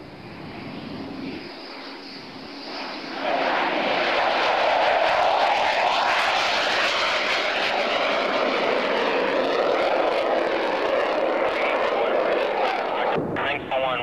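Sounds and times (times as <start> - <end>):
loud jet roar: 0.1 - 14.0.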